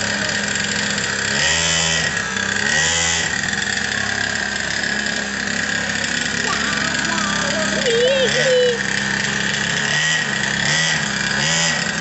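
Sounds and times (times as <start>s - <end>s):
small motorcycle engine revving: 0.0s - 12.0s.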